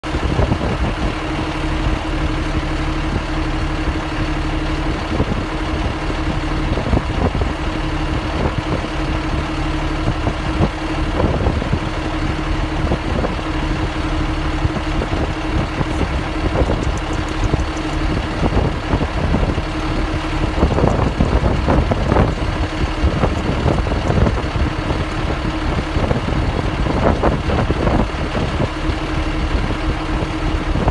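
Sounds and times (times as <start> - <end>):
vehicle engine idling: 0.0 - 30.9.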